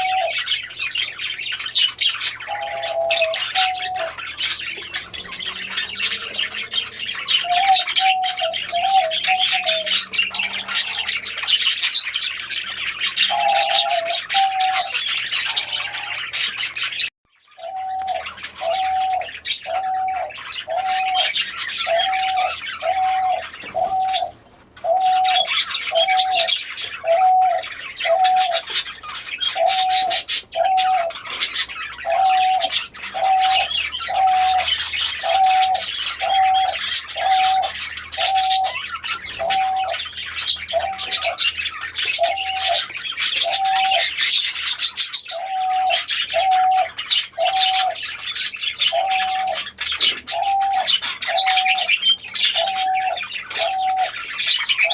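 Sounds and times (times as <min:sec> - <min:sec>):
many birds chirping: 0:00.0 - 0:54.9
pigeons cooing: 0:00.0 - 0:54.9.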